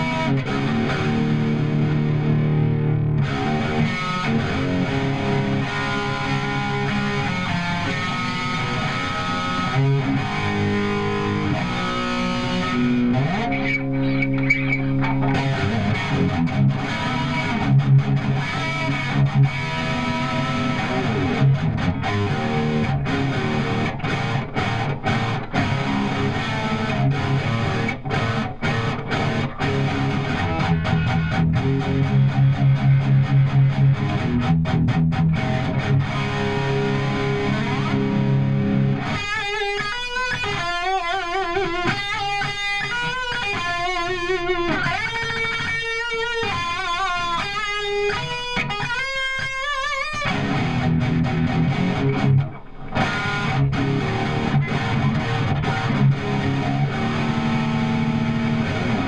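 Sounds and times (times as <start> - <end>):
distorted electric guitar riffing: 0.0 - 59.0.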